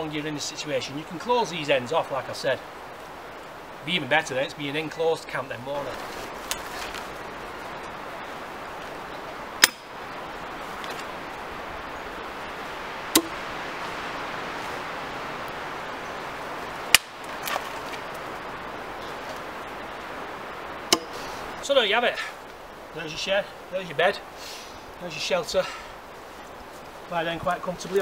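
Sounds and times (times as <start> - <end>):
spruce branches rustling: 0.0 - 28.0.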